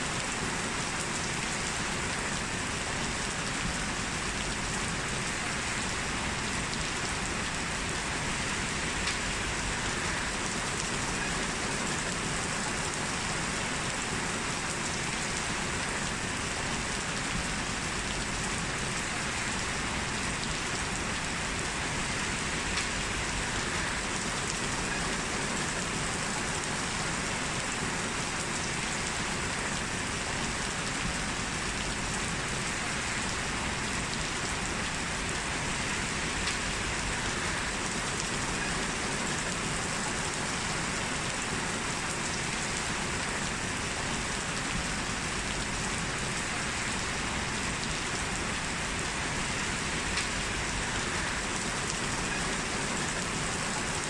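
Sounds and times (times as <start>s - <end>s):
heavy rain on hard surfaces: 0.0s - 54.0s.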